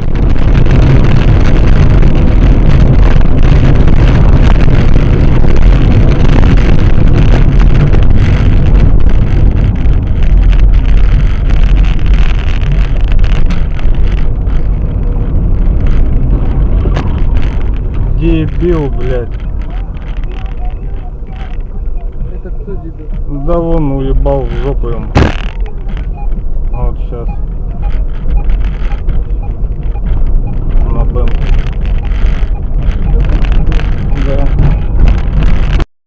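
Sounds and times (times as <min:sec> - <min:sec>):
road and wind noise from car: 0:00.0 - 0:35.9.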